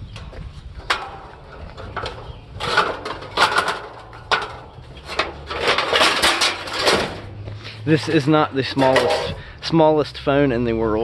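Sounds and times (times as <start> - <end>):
metal parts clanking and rattling: 0.2 - 9.4.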